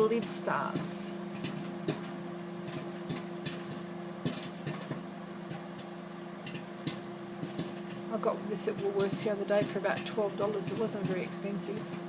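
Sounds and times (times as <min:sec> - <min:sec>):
microwave oven humming: 0:00.0 - 0:12.0
popcorn kernels popping: 0:00.0 - 0:12.0.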